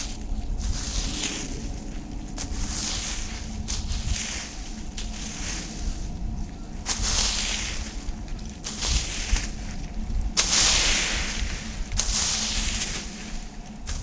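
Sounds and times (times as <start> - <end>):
rake dragging dry leaves: 0.0 - 14.0.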